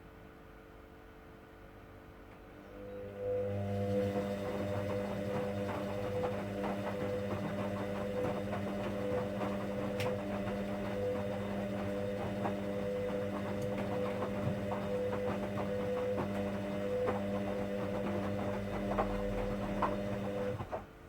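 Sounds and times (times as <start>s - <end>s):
washing machine motor hum: 2.5s - 21.0s.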